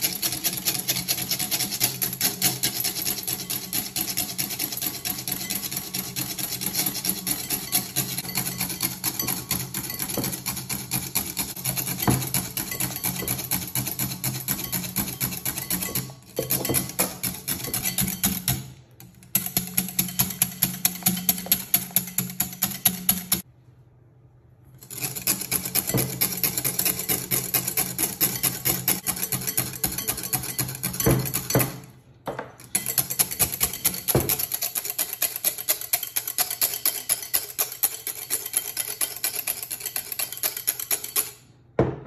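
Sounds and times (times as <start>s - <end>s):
whisk beating in glass bowl: 0.0s - 23.5s, 24.8s - 42.0s.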